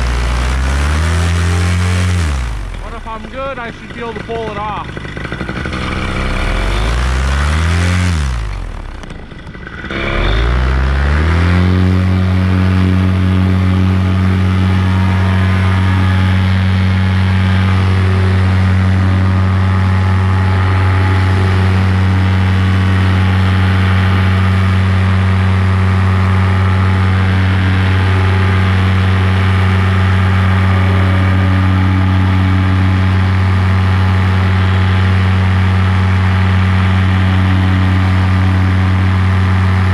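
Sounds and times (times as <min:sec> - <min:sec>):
paramotor engine revving: 0:00.0 - 0:39.9.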